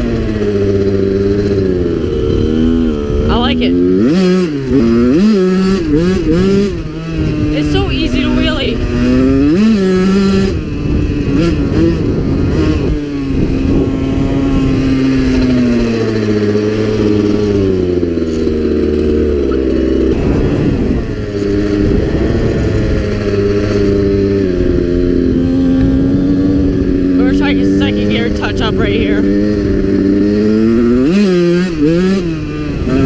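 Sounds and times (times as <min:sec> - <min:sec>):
two-stroke motorcycle engine: 0:00.0 - 0:33.0.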